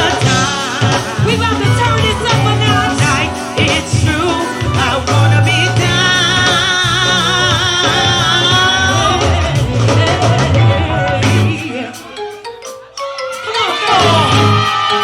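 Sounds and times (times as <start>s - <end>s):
go-go band playing: 0.0s - 15.0s.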